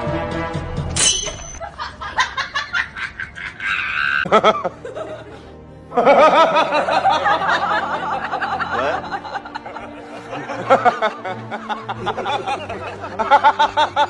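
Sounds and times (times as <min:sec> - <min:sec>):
music: 0:00.0 - 0:14.0
bursts of laughter: 0:01.6 - 0:14.0.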